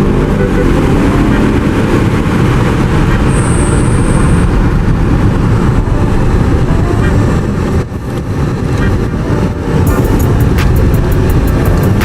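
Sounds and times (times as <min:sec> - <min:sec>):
vehicle rumble and road noise: 0:00.0 - 0:12.0.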